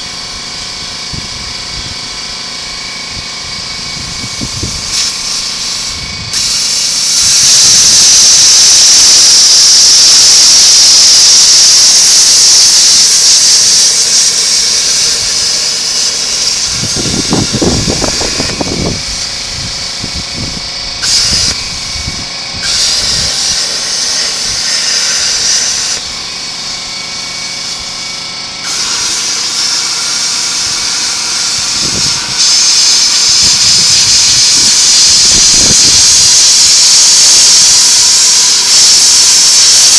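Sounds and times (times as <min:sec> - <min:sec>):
chop saw grinding metal: 0:03.7 - 0:39.9.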